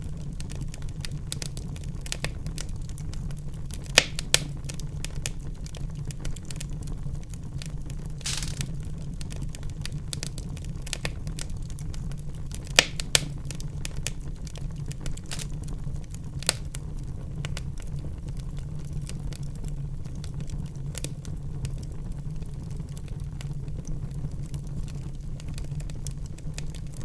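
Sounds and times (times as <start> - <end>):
low rumble of flames: 0.0 - 27.0
wood fire crackling and popping: 0.0 - 27.0.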